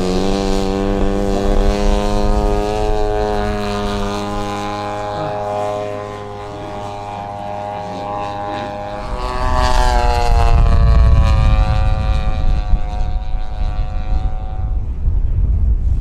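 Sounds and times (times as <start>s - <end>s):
low rumble: 0.0s - 16.0s
model airplane engine flying past: 0.0s - 16.0s.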